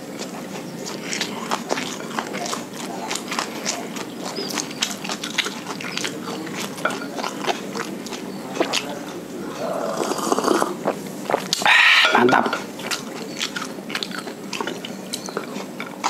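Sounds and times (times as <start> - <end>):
chewing with lip smacks: 0.0 - 16.0.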